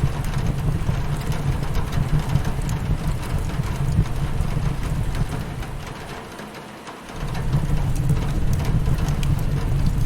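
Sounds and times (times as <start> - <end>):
steady low rumble: 0.0 - 6.1, 7.2 - 10.0
wood fire crackling: 0.0 - 6.2, 7.1 - 10.0
rain pattering on window: 0.0 - 10.0.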